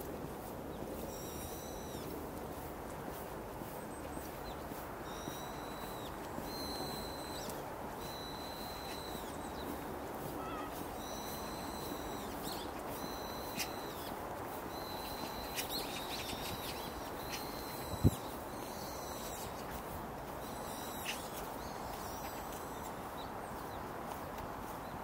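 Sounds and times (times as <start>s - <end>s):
steady background noise: 0.0s - 25.0s
birds whistling: 1.0s - 2.1s, 3.6s - 24.2s.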